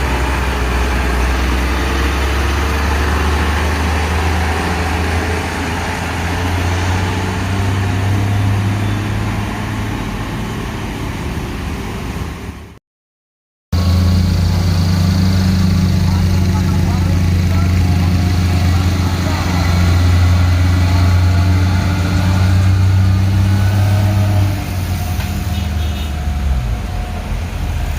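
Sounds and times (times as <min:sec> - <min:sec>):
heavy diesel engine droning: 0:00.0 - 0:12.8, 0:13.8 - 0:27.9.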